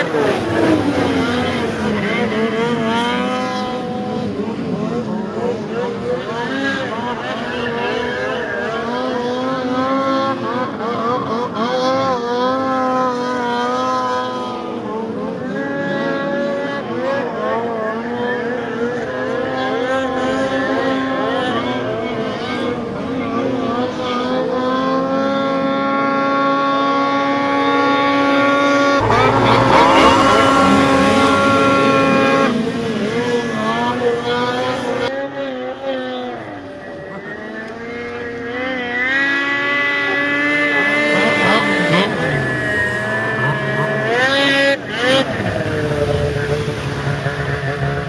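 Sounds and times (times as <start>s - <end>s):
snowmobile engines at high revs: 0.0s - 48.0s.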